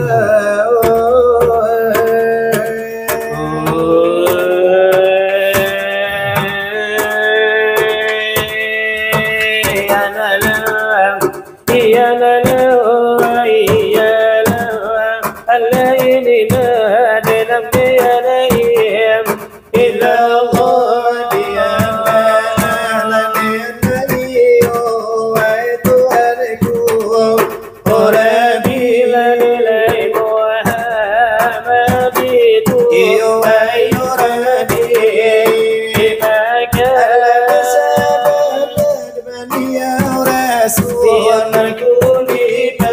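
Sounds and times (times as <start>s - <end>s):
hands striking brass trays: 0.0s - 42.9s
men singing devotional chant: 0.0s - 42.9s.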